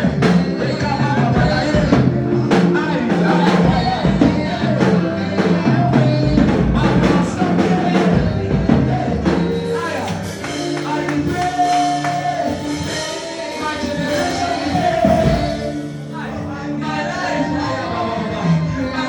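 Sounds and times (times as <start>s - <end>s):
drums: 0.0s - 19.0s
gospel band music: 0.0s - 19.0s
singing: 0.0s - 19.0s.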